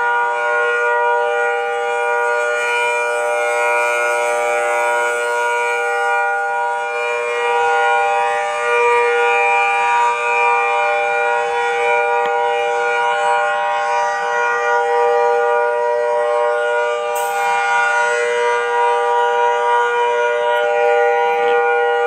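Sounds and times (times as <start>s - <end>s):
warning siren steady chord: 0.0s - 22.0s.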